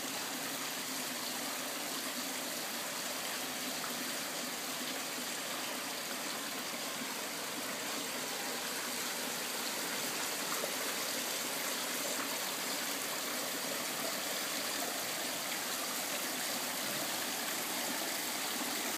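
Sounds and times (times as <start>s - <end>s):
water splashing into pond: 0.0s - 18.9s.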